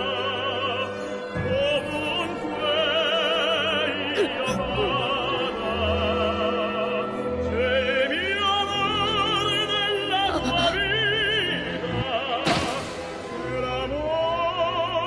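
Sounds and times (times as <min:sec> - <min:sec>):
operatic singing with vibrato: 0:00.0 - 0:15.0.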